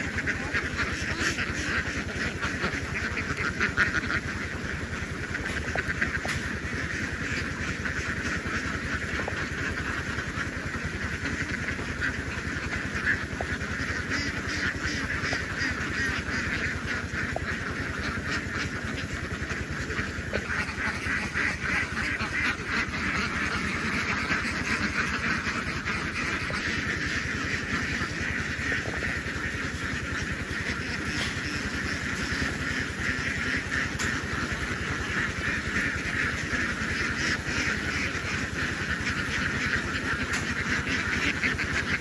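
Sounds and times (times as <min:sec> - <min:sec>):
flock of ducks quacking: 0:00.0 - 0:42.0.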